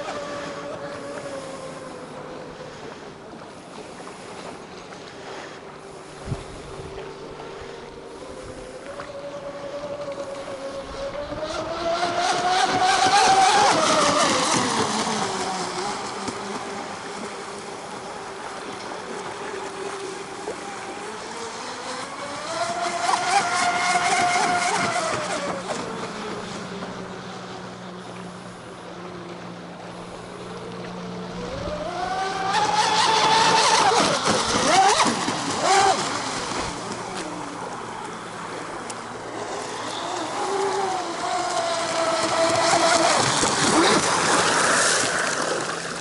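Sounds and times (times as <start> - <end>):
model boat motor: 0.0 - 46.0.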